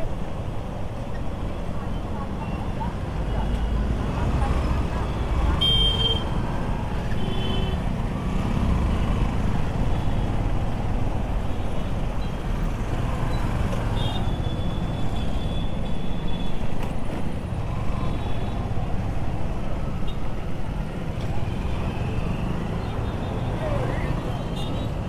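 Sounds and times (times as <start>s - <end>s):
surrounding traffic noise: 0.0s - 25.0s.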